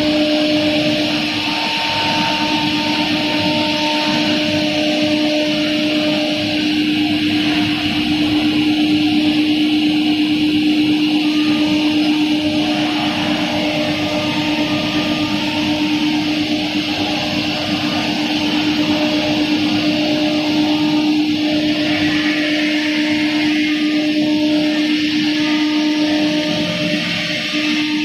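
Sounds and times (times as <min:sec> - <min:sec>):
router spindle cutting wood: 0:00.0 - 0:28.0.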